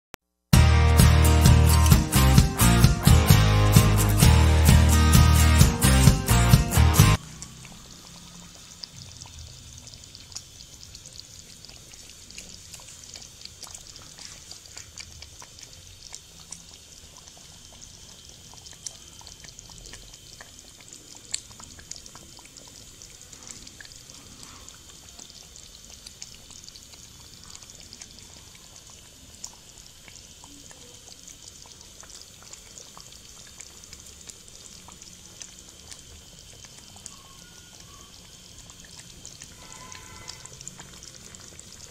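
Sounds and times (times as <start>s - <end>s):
gravy simmering: 0.6s - 41.9s.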